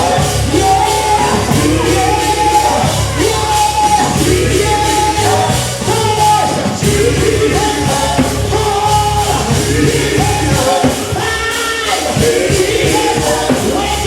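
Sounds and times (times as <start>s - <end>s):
band with bass and drums: 0.0s - 14.0s
voices singing gospel: 0.0s - 14.0s.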